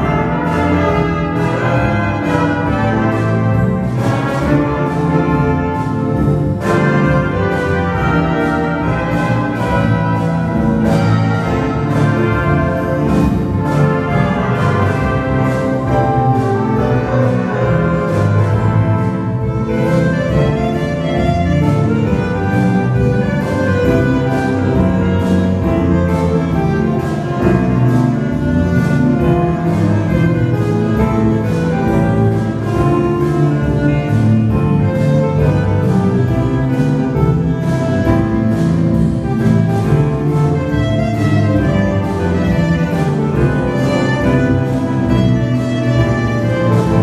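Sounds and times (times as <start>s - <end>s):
big band playing: 0.0s - 47.0s.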